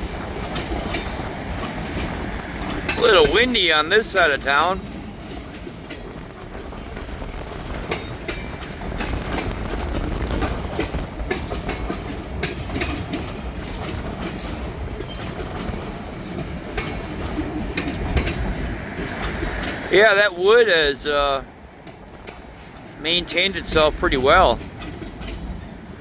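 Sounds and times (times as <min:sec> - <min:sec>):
train rumble: 0:00.0 - 0:26.0
train wheels clicking over rail joints: 0:00.0 - 0:26.0
wind buffeting microphone: 0:00.0 - 0:26.0.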